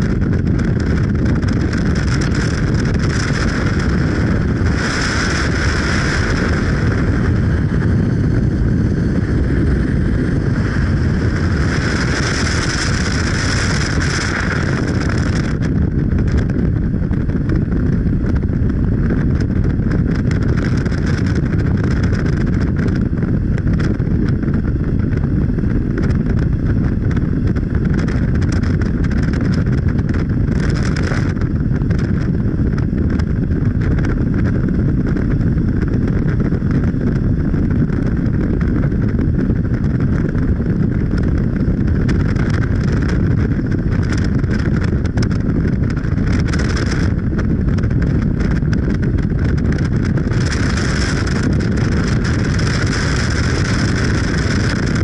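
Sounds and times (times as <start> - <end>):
vehicle rumbling in motion: 0.0 - 55.0.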